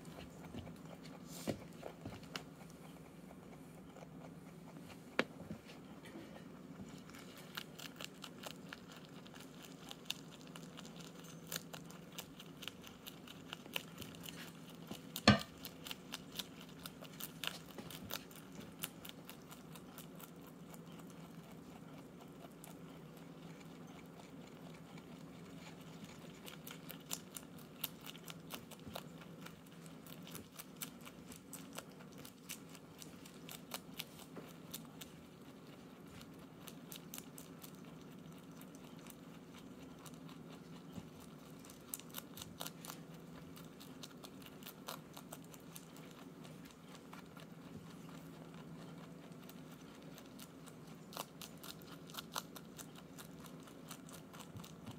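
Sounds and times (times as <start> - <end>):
faint low hum: 0.0 - 54.9
rabbit chewing leaves: 0.0 - 54.9.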